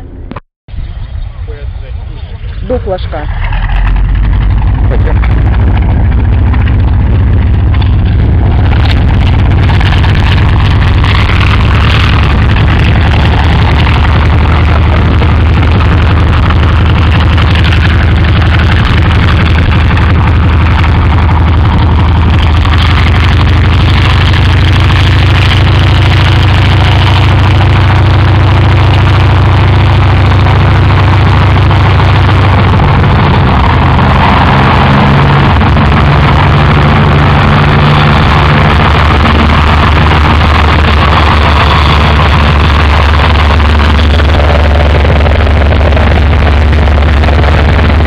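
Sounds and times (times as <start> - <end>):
radial engine drone: 0.0 - 48.0.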